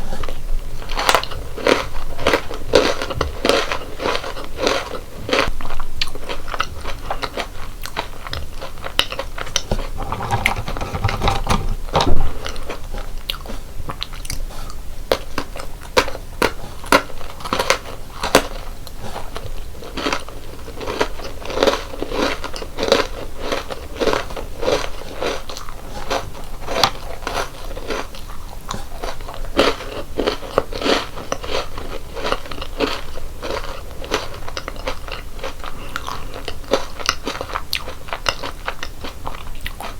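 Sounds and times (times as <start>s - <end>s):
chewing crunchy snacks: 0.0s - 39.9s.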